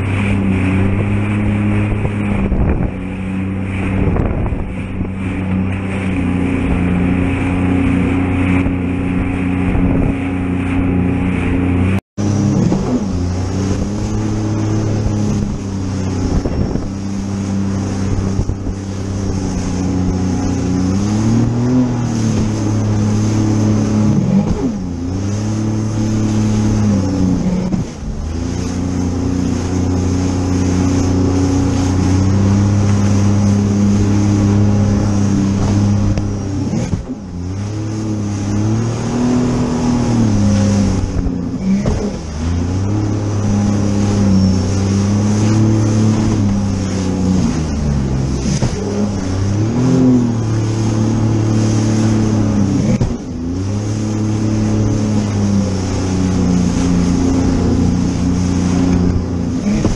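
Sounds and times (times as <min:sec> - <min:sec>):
jet ski engine: 0:00.0 - 0:59.9
rushing water and spray: 0:00.0 - 0:59.9.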